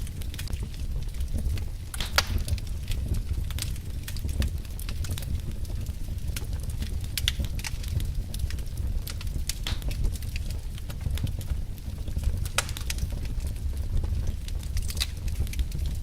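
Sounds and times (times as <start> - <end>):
burning wood crackling and popping: 0.0 - 16.0
low rumble of flame: 0.0 - 16.0.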